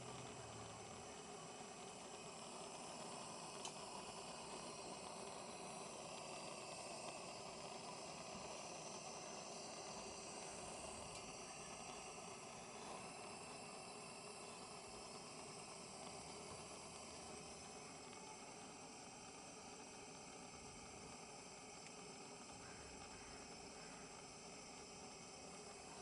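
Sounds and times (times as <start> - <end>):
pressure lantern hissing: 0.0 - 26.0.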